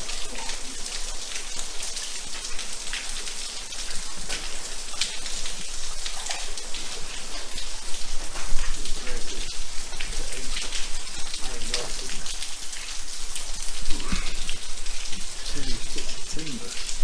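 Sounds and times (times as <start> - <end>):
water dripping and trickling: 0.0 - 17.0.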